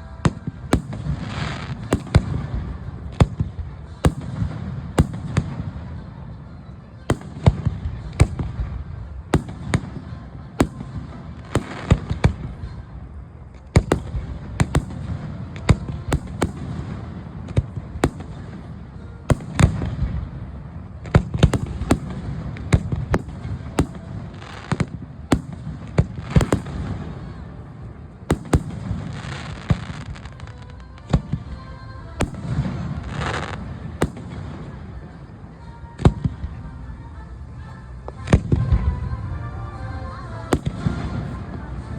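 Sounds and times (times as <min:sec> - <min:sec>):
fireworks bangs: 0:00.0 - 0:06.1, 0:07.0 - 0:13.0, 0:13.6 - 0:35.3, 0:40.4 - 0:41.9
fireworks crackling: 0:00.0 - 0:36.6, 0:38.1 - 0:41.9.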